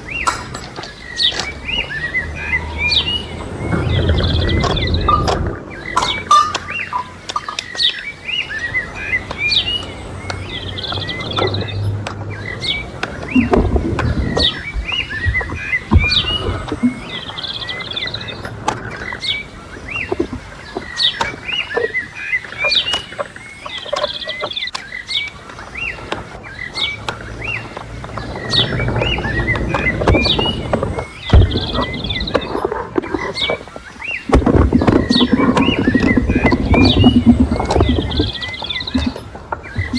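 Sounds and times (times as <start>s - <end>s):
sharp knocks and clicks: 0.0s - 2.4s, 3.0s - 8.0s, 9.1s - 39.9s
small birds chirping: 0.0s - 39.9s.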